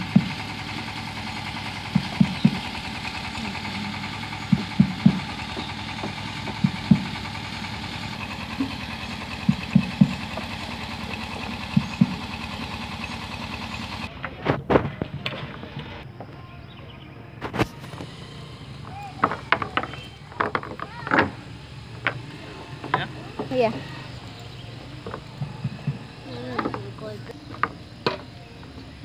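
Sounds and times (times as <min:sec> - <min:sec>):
motor engine running: 0:00.0 - 0:29.0.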